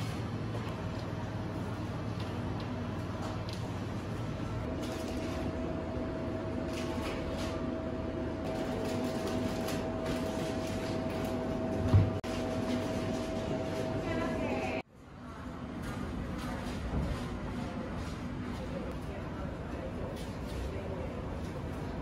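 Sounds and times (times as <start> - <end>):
mechanical hum with whine: 0.0 - 22.0.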